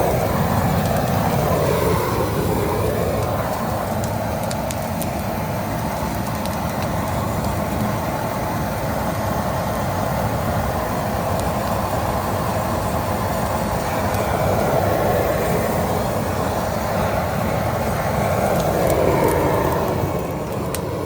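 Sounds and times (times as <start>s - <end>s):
brush fire roaring: 0.0s - 21.0s
fire crackles: 0.0s - 21.0s.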